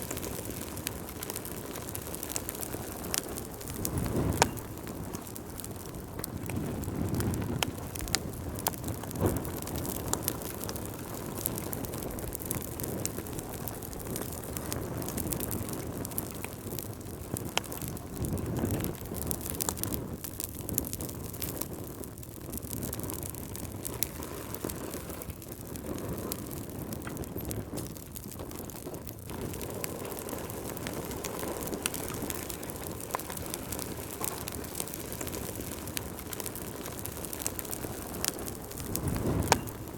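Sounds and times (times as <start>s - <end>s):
fire crackling and popping: 0.0s - 39.9s
flames rushing: 0.0s - 39.9s.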